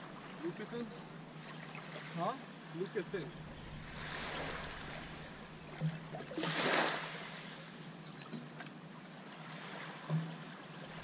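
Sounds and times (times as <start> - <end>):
rush of water: 0.0 - 11.0
water lapping around a jetty: 0.0 - 11.0.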